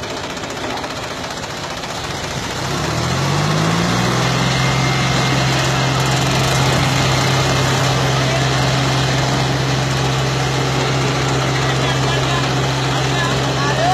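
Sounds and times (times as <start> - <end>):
diesel tractor engines under load: 0.0 - 13.9.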